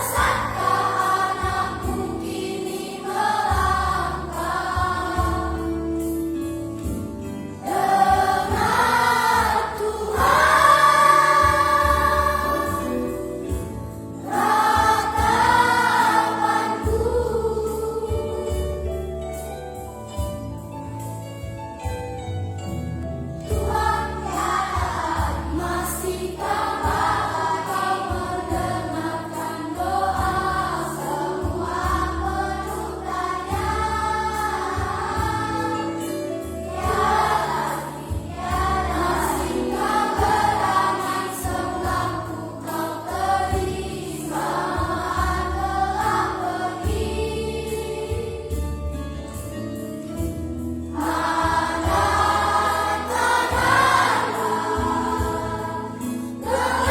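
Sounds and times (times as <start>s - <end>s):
children's choir singing: 0.0s - 6.2s, 7.6s - 19.0s, 23.4s - 49.4s, 50.1s - 56.9s
instrumental accompaniment: 0.0s - 56.9s.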